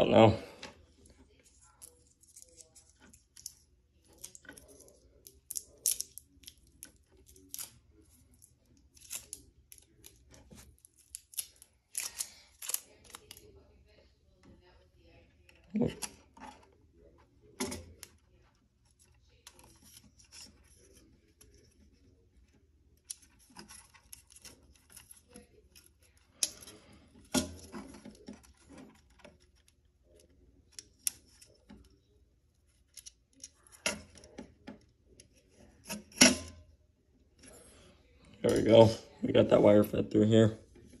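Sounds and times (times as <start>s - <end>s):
plastic and wire clicking and rubbing: 0.6s - 13.5s, 15.4s - 36.5s.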